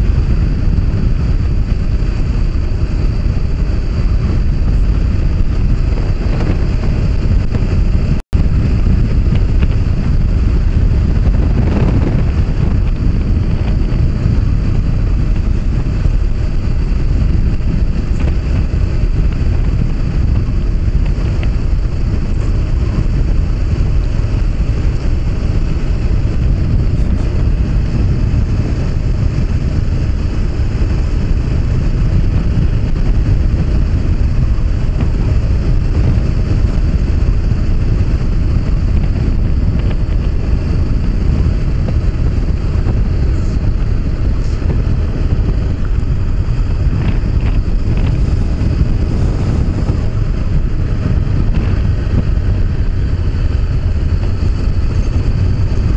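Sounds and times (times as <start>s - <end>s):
motorcycle engine: 0.0s - 55.9s
road noise: 0.0s - 55.9s
wind rushing over microphone: 0.0s - 55.9s.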